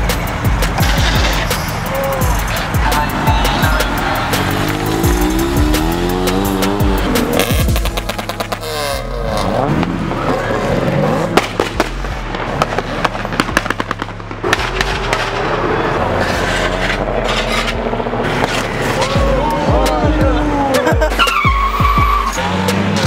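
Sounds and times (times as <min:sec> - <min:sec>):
exhaust pops and crackles: 0:00.0 - 0:10.5, 0:11.2 - 0:20.4
car engines revving past: 0:00.0 - 0:23.0.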